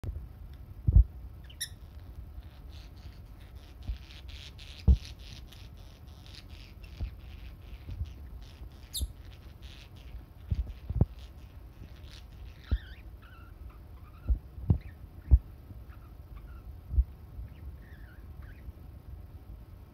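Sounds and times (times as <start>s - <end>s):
birds chirping: 1.4s - 16.8s, 17.4s - 18.8s.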